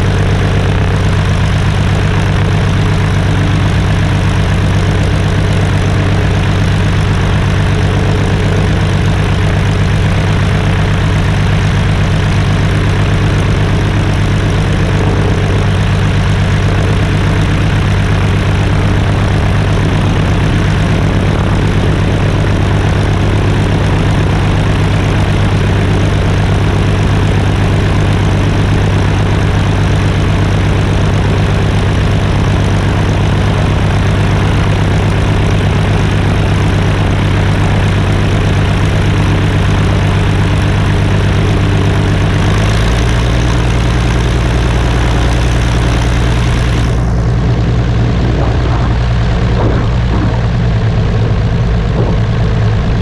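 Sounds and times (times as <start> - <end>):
propeller plane engine idling: 0.0 - 53.0.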